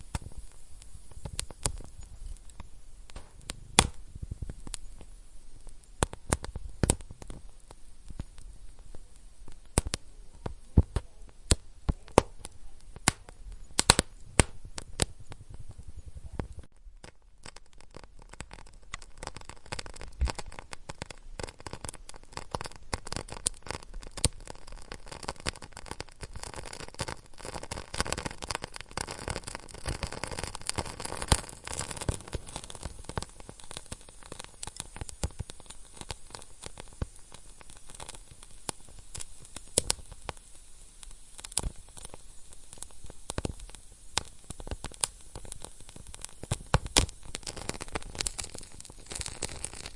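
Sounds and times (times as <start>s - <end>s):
fire pops and snaps: 0.0s - 49.9s
soft hiss: 0.0s - 49.9s
wood fire crackling: 0.0s - 49.9s.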